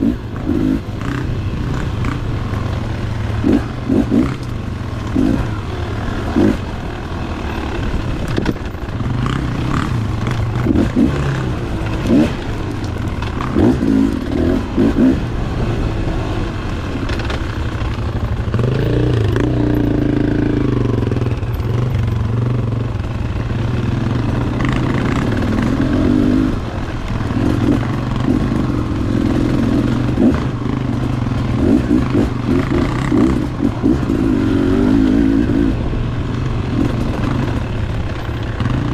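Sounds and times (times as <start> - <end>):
two-stroke dirt bike engine revving: 0.0 - 38.9.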